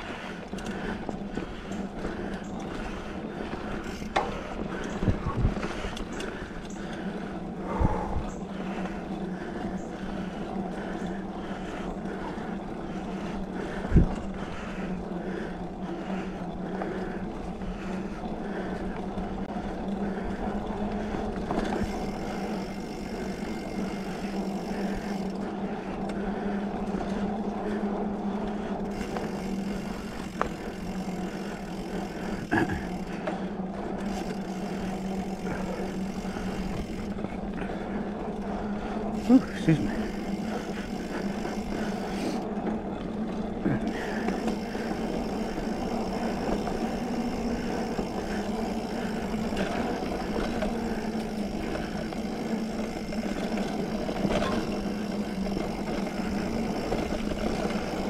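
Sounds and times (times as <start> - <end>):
mountain bike rolling on dirt: 0.0 - 58.0.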